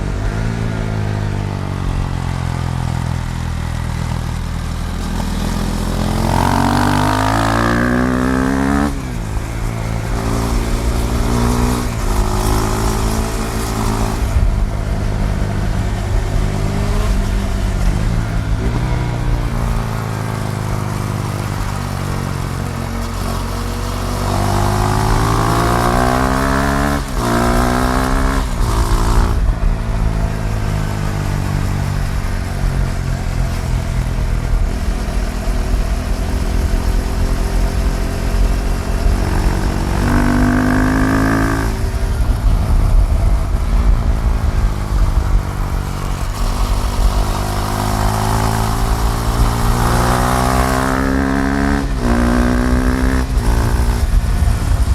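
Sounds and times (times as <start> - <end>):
low wind rumble: 0.0 - 54.9
motorcycle engine accelerating: 0.0 - 54.9.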